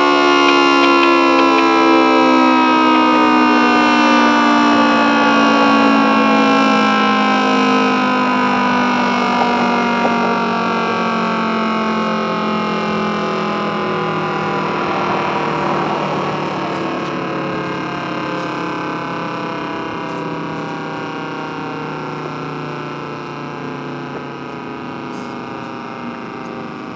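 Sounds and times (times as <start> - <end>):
warning siren winding down: 0.0 - 26.9.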